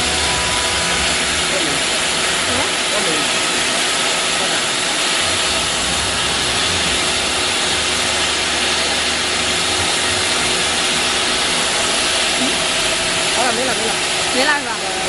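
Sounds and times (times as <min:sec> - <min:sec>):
router spindle cutting: 0:00.0 - 0:15.0.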